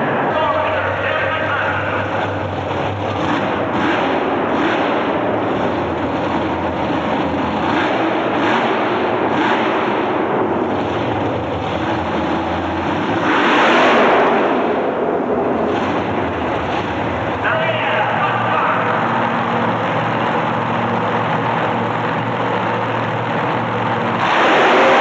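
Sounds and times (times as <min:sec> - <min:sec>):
racing engine at high revs: 0:00.9 - 0:25.0.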